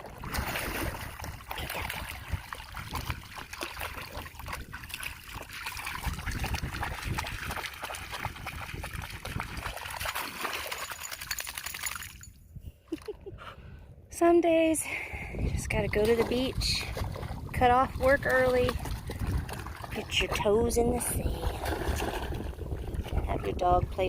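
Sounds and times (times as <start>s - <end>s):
seawater splashing and trickling: 0.0s - 12.3s, 15.7s - 24.0s.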